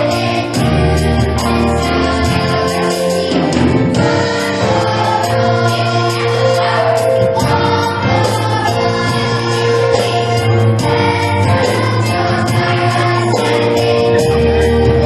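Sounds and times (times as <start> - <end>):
choir singing: 0.0 - 15.0
instrumental accompaniment: 0.0 - 15.0.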